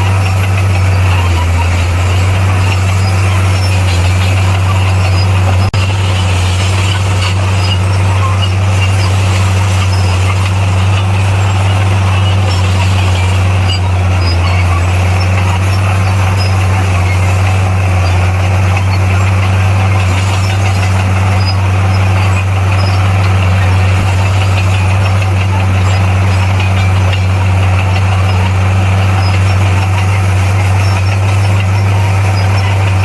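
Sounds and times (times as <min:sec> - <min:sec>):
bulldozer diesel engine drone: 0:00.0 - 0:33.0.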